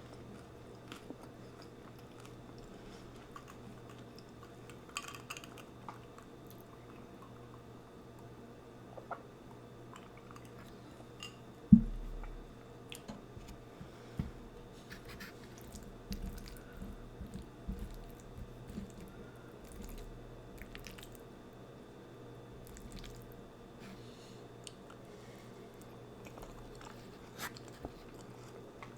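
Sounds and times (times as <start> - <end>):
chewing and wet mouth sounds: 0.0 - 11.4, 14.8 - 21.4, 22.6 - 23.4, 24.6 - 28.9
faint steady hum: 0.0 - 28.9.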